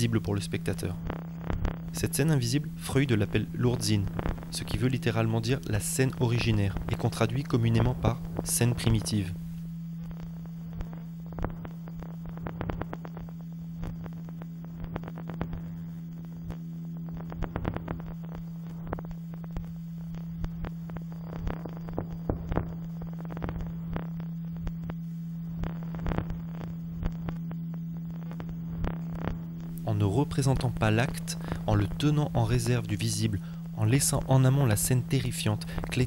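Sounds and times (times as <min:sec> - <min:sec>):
crackles and clicks: 0:00.0 - 0:36.0
low drone tone: 0:00.0 - 0:36.0.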